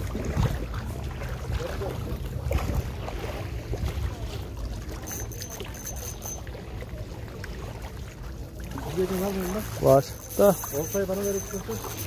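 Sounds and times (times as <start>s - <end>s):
water at shoreline: 0.0s - 12.0s.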